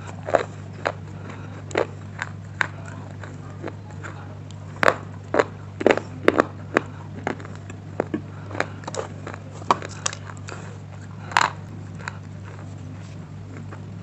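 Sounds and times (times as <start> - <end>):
chewing crunches: 0.0 - 14.0
steady low hum: 0.0 - 14.0.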